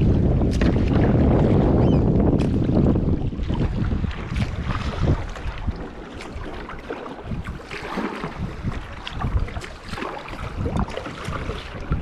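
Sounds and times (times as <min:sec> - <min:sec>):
paddle splashing in water: 0:00.0 - 0:12.0
wind buffeting microphone: 0:00.0 - 0:12.0.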